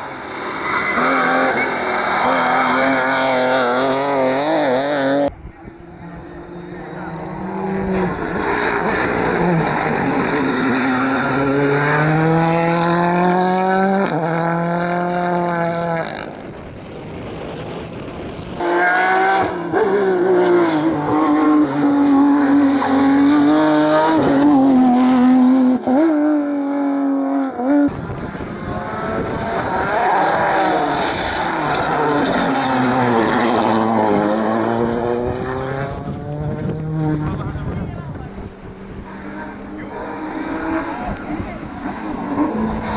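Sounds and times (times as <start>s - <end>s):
rally car engines revving: 0.0s - 42.9s.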